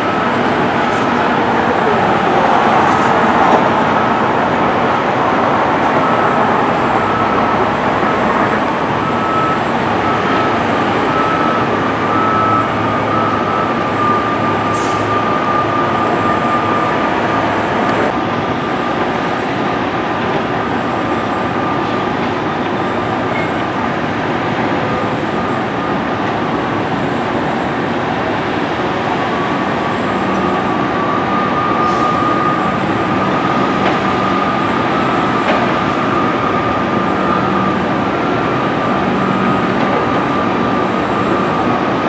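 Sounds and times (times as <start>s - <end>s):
moving train running noise: 0.0s - 42.0s.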